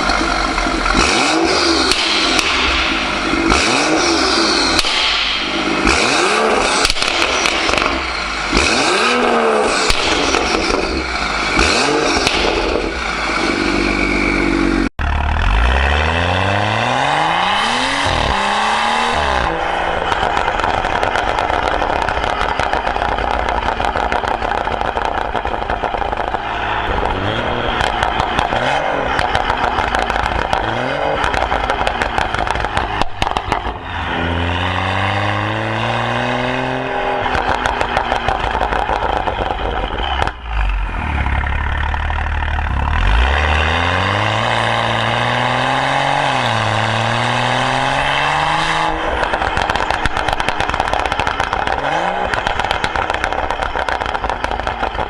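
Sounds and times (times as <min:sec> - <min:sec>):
exhaust crackles and pops: 0:00.0 - 0:15.4, 0:17.2 - 0:34.5, 0:35.2 - 0:55.0
engine revving: 0:00.0 - 0:55.0.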